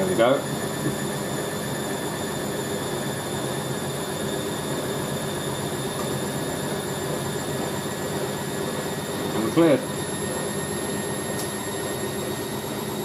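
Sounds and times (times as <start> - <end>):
constant whine: 0.0 - 13.0
washing machine spinning hum: 0.0 - 13.0.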